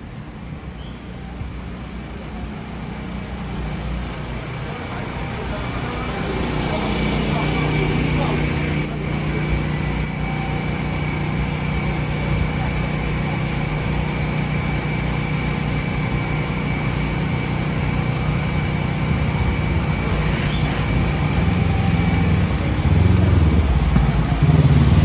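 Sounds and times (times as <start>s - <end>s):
scooter engines: 0.0s - 25.0s
truck engine running: 0.0s - 25.0s.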